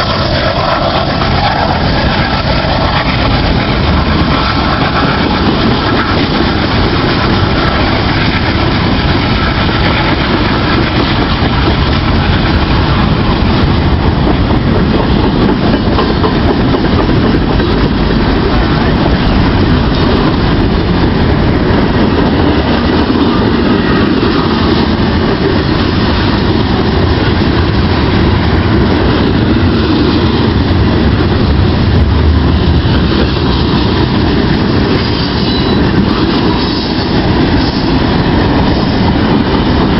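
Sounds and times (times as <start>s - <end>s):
freight train passing: 0.0s - 39.9s.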